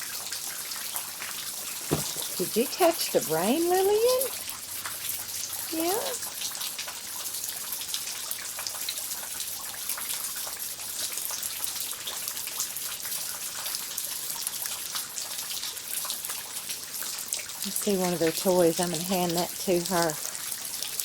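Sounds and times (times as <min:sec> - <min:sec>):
rain falling and dripping: 0:00.0 - 0:21.0.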